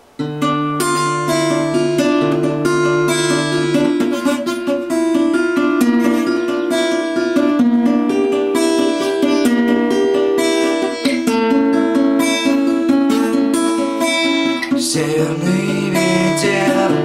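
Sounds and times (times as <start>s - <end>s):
guitar arpeggios: 0.0s - 17.0s.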